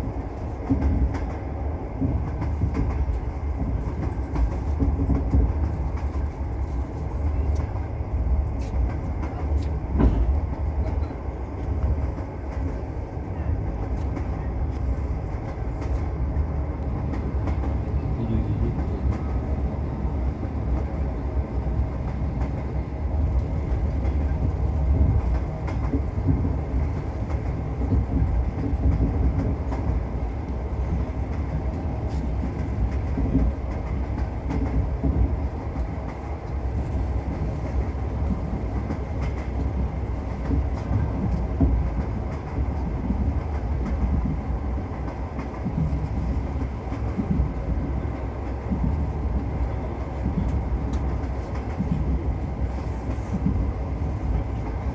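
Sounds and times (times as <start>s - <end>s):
train rumbling on rails: 0.0s - 54.9s.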